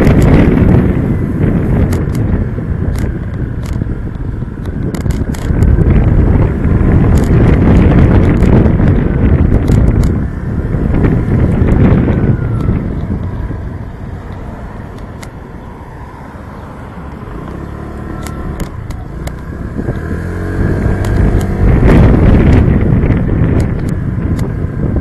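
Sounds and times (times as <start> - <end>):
motorcycle engine running: 0.0 - 15.4, 17.1 - 25.0
wind rushing over microphone: 0.0 - 25.0.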